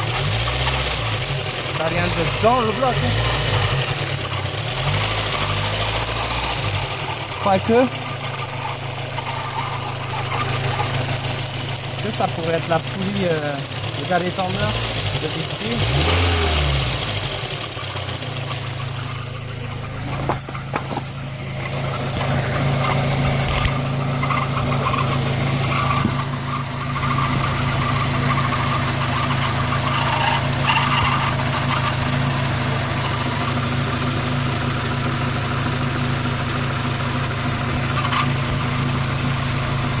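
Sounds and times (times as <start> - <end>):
car engine idling: 0.0 - 40.0
engine knocks: 0.0 - 40.0.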